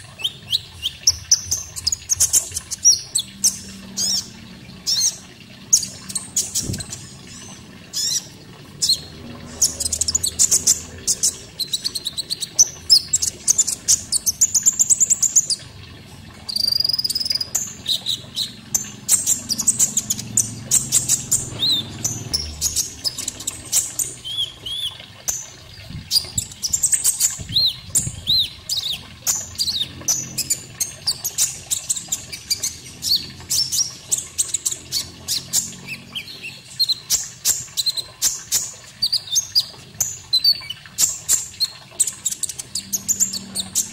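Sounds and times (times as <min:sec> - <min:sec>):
bird singing chirps and trills: 0:00.0 - 0:43.9.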